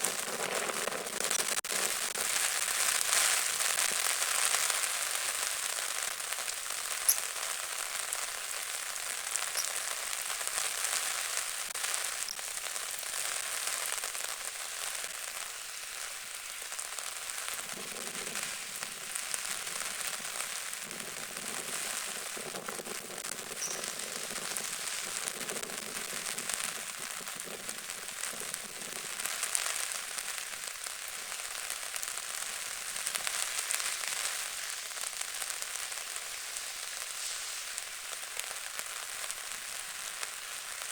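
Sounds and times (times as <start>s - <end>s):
rain pattering on water: 0.0s - 40.9s.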